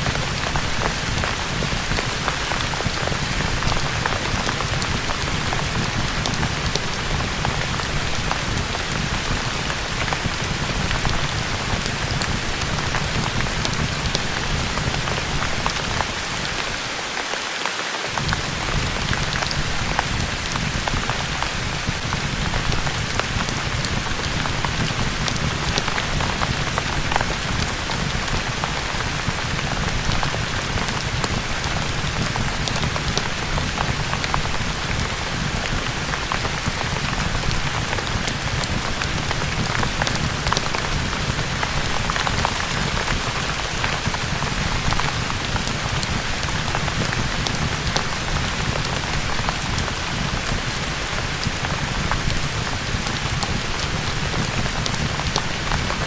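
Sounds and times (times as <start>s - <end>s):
rain pouring: 0.0s - 56.0s.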